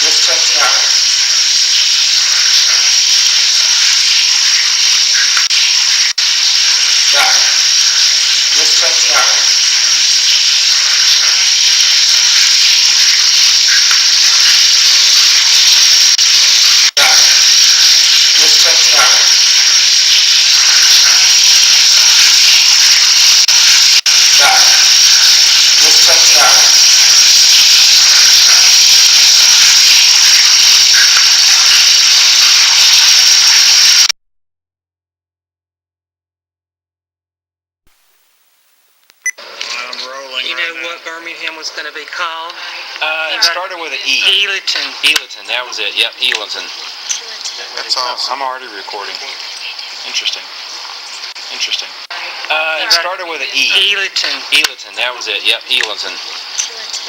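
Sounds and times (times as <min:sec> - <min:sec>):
loud recording hiss: 0:00.0 - 0:34.1, 0:37.9 - 0:57.0.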